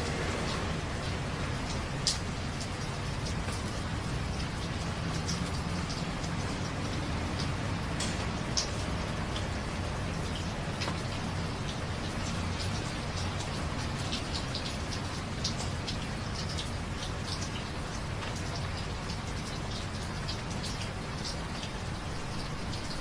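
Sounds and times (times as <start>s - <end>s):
steady rain falling: 0.0s - 23.0s
drops ticking on hard surfaces: 0.4s - 23.0s.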